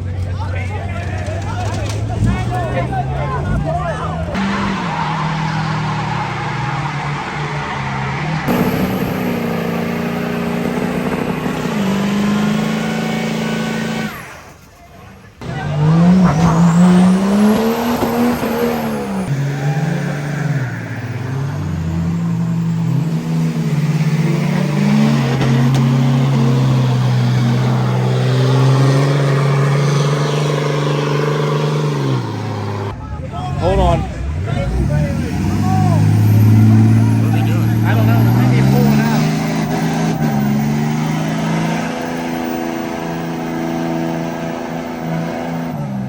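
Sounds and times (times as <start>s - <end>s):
truck engine revving: 0.0s - 46.0s
tire squeal: 1.1s - 33.0s, 33.6s - 46.0s.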